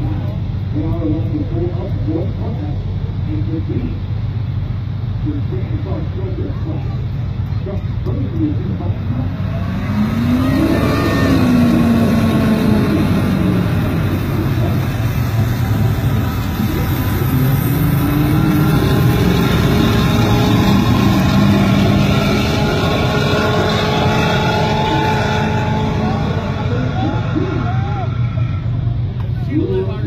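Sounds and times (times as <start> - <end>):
diesel engine under heavy load: 0.0 - 30.0.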